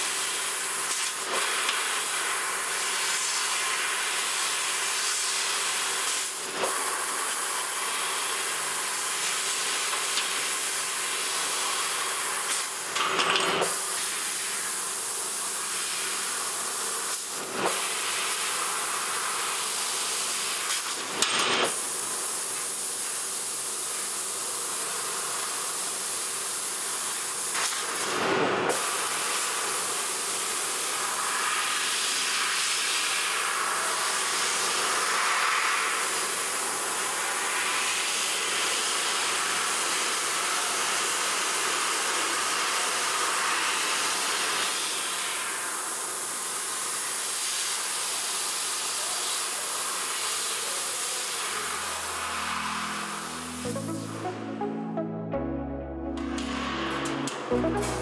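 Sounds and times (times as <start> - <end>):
laser cutter gas jet hissing: 0.0 - 54.3.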